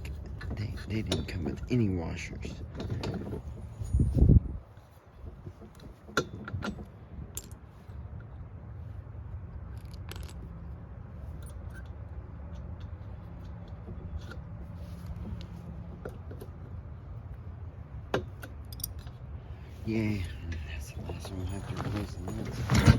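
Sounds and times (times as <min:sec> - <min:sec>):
metal washers clinking: 0:00.0 - 0:04.3, 0:05.6 - 0:08.3, 0:09.6 - 0:16.8, 0:18.0 - 0:22.9
steady low hum: 0:00.0 - 0:22.9.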